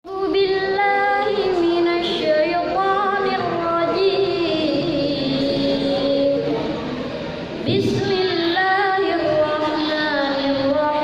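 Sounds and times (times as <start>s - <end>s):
young person chanting recitation: 0.1s - 11.0s.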